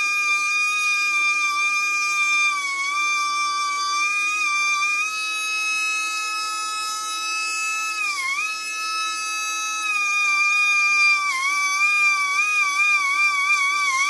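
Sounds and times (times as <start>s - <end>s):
rotary tool sanding whine: 0.0s - 14.0s.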